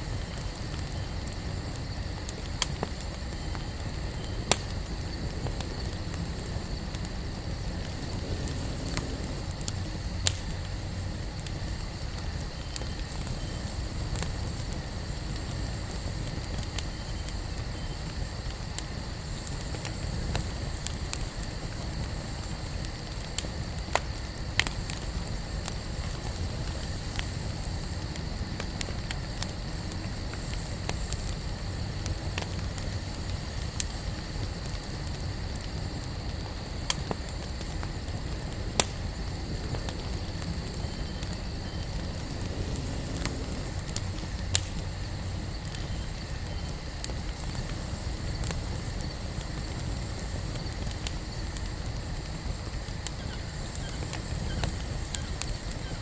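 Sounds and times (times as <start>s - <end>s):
campfire burning and crackling: 0.0s - 56.0s.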